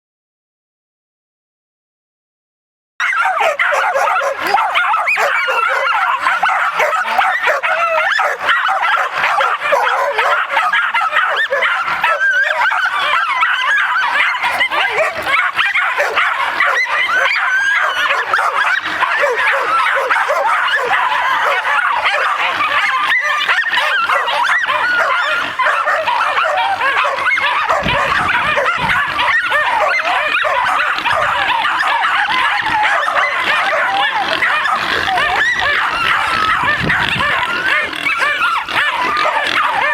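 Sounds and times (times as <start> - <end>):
dogs barking and yelping: 3.0 - 39.9.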